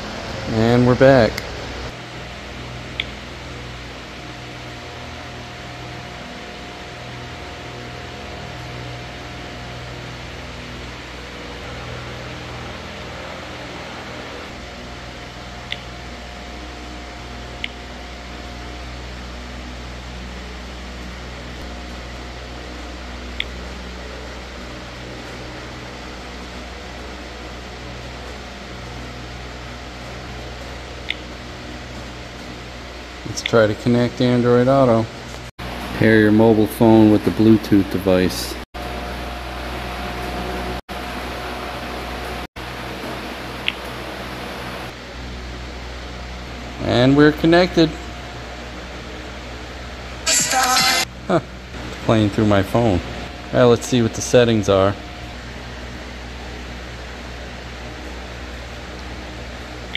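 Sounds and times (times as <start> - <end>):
fan hiss with low hum: 0.0 - 59.9.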